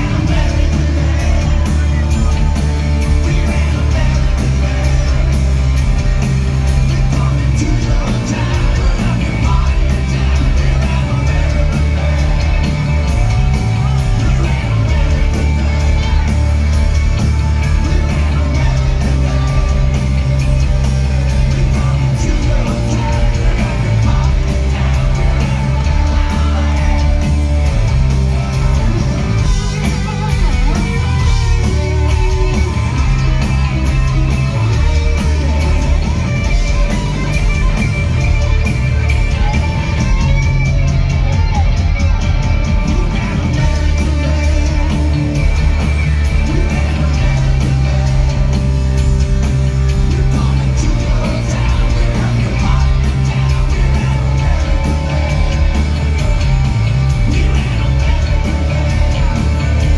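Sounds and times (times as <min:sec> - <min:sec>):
person singing: 0:00.0 - 0:48.8, 0:49.9 - 0:59.9
live rock band playing: 0:00.0 - 0:59.9.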